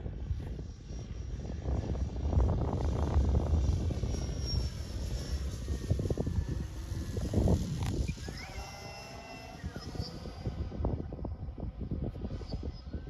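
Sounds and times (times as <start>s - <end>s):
model plane motor whine: 0.0s - 13.0s
wind rumbling on microphone: 0.0s - 13.0s.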